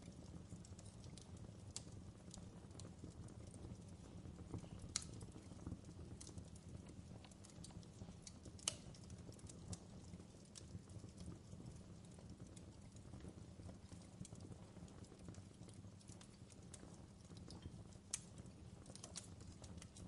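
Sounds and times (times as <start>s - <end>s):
fireplace fire crackling: 0.0s - 20.0s
low steady fire rumble: 0.0s - 20.0s.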